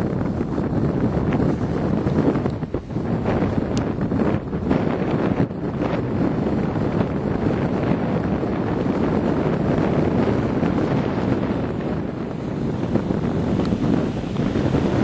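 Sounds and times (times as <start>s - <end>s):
tyres churning through snow: 0.0s - 15.0s
wind buffeting microphone: 0.0s - 15.0s.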